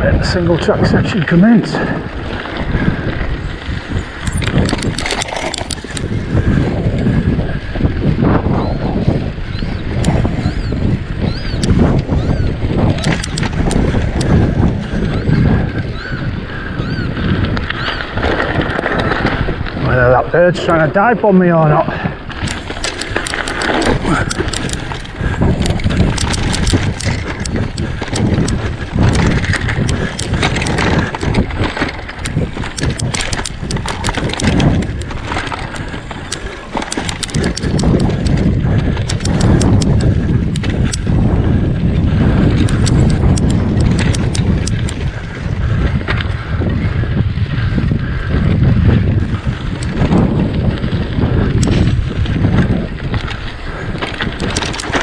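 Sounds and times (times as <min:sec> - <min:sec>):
bike rattling over rocks: 0:00.0 - 0:55.0
bike tyres crunching over stony ground: 0:00.0 - 0:55.0.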